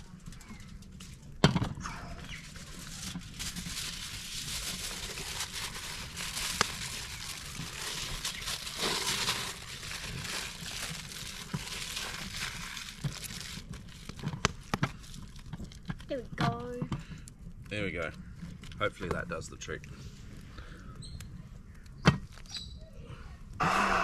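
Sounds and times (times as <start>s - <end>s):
aluminium foil crinkling: 0.0s - 20.4s, 21.7s - 22.7s.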